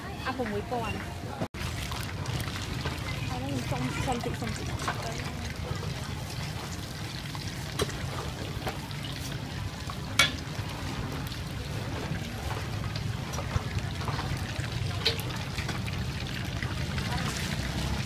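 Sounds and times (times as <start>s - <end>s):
oil bubbling and sizzling: 1.6s - 18.0s.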